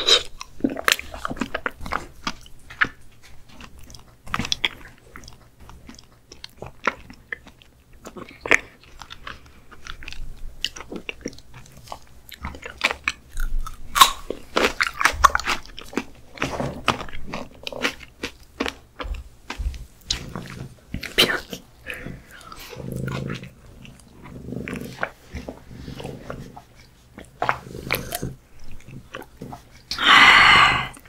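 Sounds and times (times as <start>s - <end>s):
person chewing: 0.0s - 31.0s.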